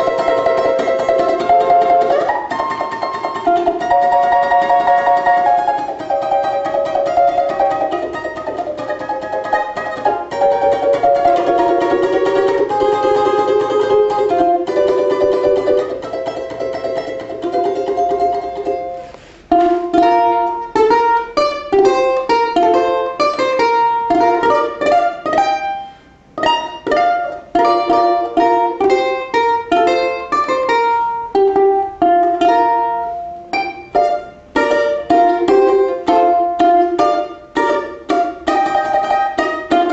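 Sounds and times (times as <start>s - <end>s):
plucked string instrument music: 0.0s - 39.9s.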